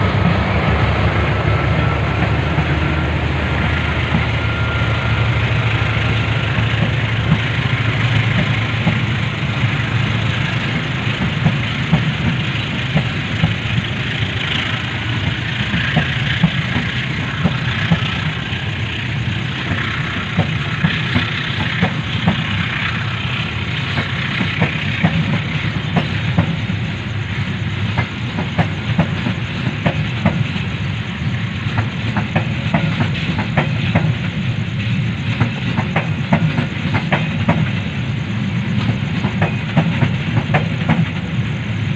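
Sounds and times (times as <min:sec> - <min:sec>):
train rumbling on rails: 0:00.0 - 0:41.9.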